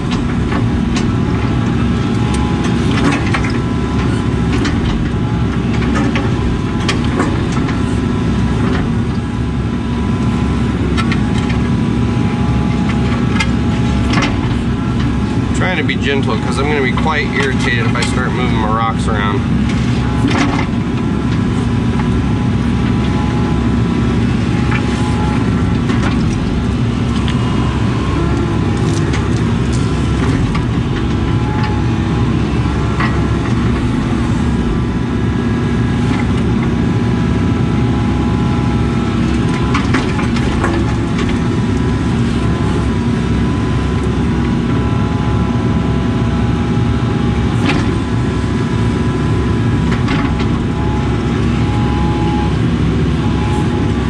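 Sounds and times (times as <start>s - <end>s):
excavator diesel engine: 0.0s - 54.0s
hydraulic whine: 0.0s - 54.0s.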